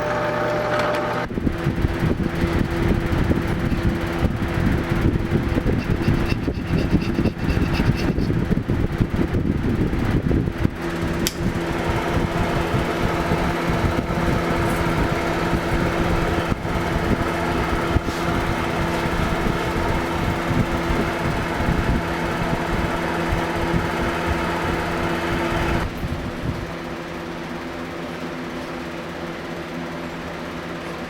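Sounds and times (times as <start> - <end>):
electric shop machine humming: 0.0 - 31.0.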